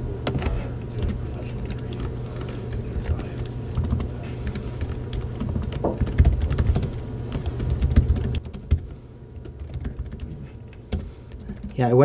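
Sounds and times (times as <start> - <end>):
typing on computer keyboard: 1.0 - 11.8.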